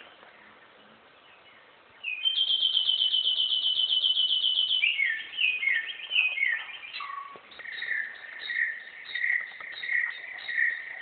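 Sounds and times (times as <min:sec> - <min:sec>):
bird whistling song: 0:01.2 - 0:11.0.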